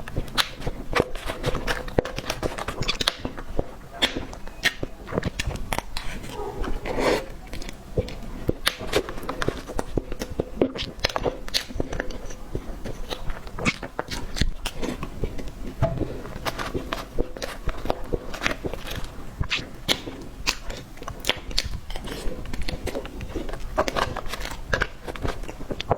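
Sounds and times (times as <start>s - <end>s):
chewing and biting cake: 0.0s - 25.9s.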